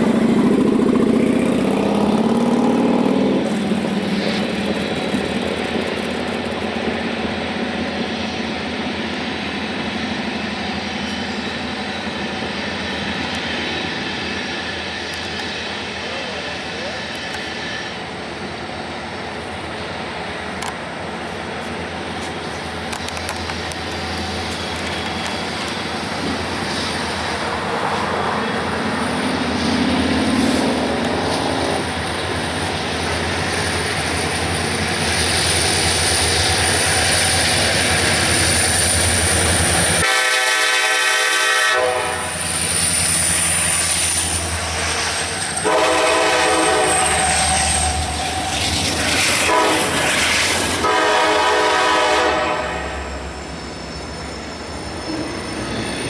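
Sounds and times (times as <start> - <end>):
diesel locomotive engine rumble: 0.0 - 56.0
train wheel squeal: 7.7 - 19.3, 21.7 - 56.0.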